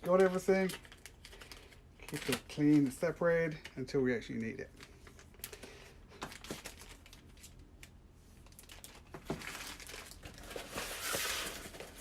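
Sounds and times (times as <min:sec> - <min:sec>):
packaging crinkling and rustling: 0:00.0 - 0:03.7, 0:04.5 - 0:12.0.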